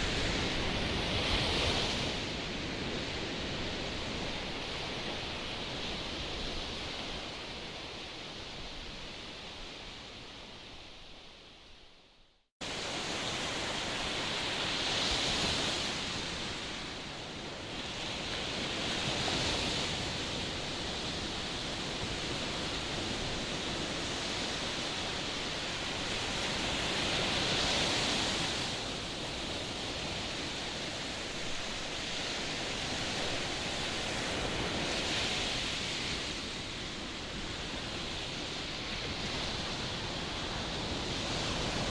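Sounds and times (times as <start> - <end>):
strong wind: 0.0 - 11.8, 12.6 - 41.9.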